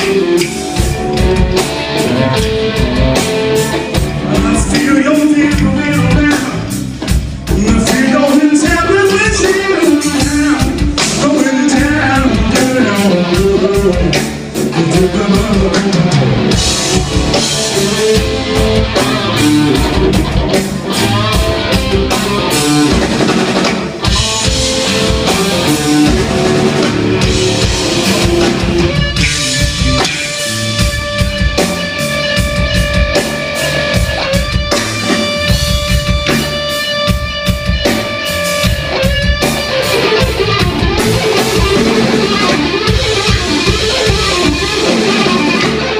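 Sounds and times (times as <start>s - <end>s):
drum kit steady beat: 0.0s - 45.9s
electric guitar: 0.0s - 45.9s.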